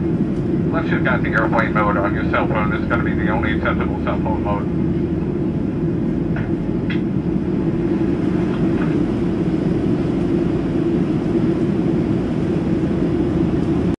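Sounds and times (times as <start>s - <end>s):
airplane cabin drone: 0.0s - 14.0s.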